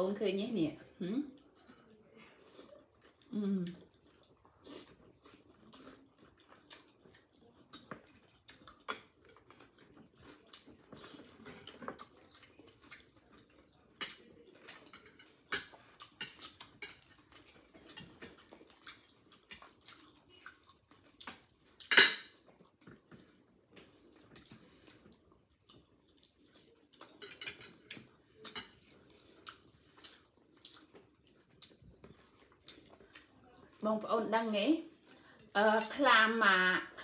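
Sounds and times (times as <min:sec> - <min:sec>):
soft chewing: 0:00.8 - 0:36.0.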